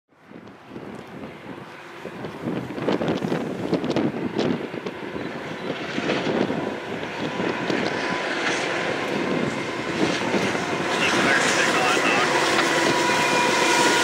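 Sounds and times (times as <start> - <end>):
wind buffeting microphone: 0.1 - 14.0
distant diesel freight train rumble: 0.2 - 14.0.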